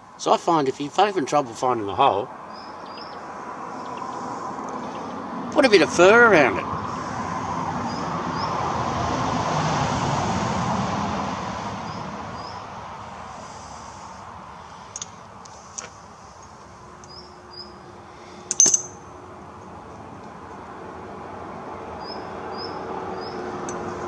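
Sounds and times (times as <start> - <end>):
vehicle passing: 1.9 - 24.0.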